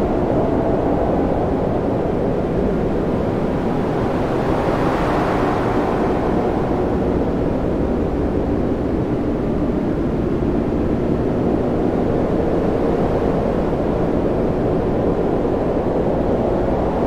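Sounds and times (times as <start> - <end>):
low roar of wind: 0.0 - 17.0
rough sea: 0.0 - 17.0.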